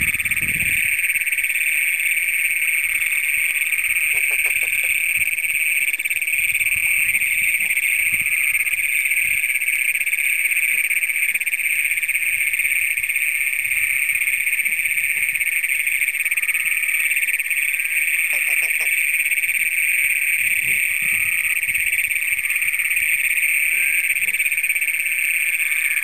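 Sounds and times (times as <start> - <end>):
toads trilling in chorus: 0.0 - 26.0.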